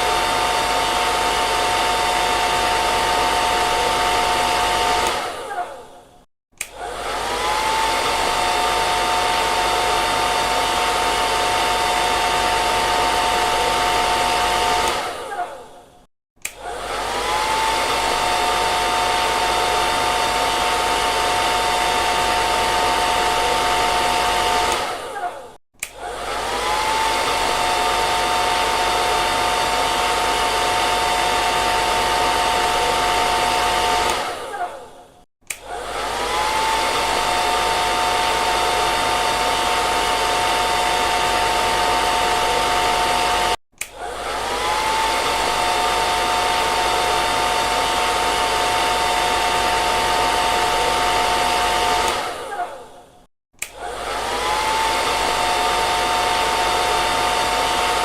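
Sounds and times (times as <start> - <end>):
hair dryer blowing: 0.0 - 6.0, 6.6 - 58.0.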